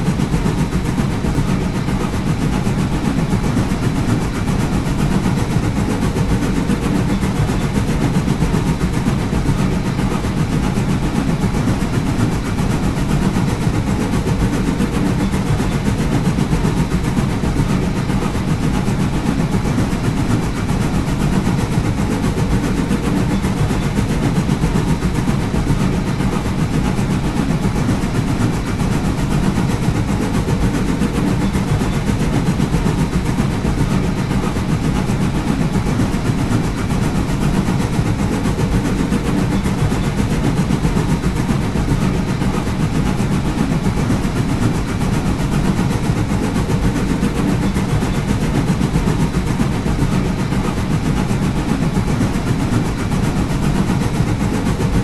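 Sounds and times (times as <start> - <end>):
fast dense clatter: 0.0 - 55.0
steam locomotive rumble: 0.0 - 55.0.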